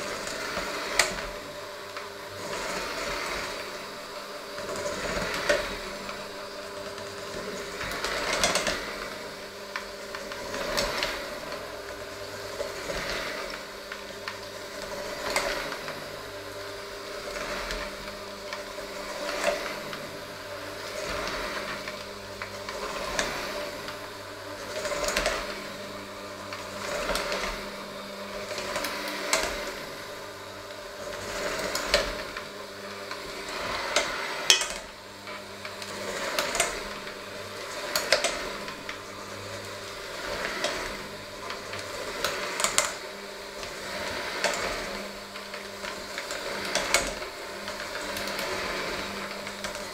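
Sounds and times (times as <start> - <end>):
electric hand mixer motor hum: 0.0 - 49.9.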